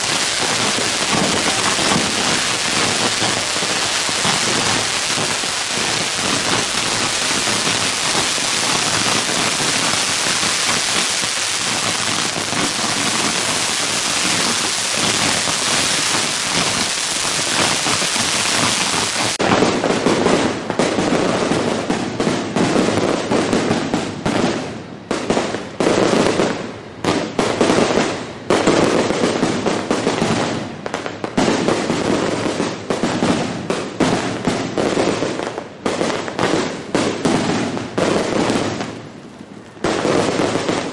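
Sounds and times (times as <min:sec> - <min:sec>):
firecrackers crackling: 0:00.0 - 0:40.9
loud firecracker bangs: 0:00.0 - 0:40.9.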